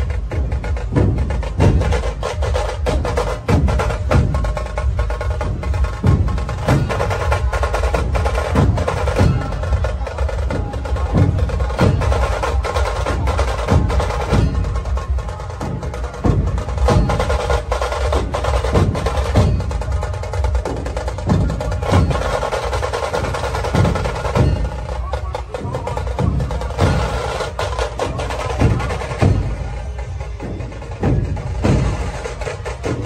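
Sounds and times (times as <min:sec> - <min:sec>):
percussion-heavy music: 0:00.0 - 0:33.0.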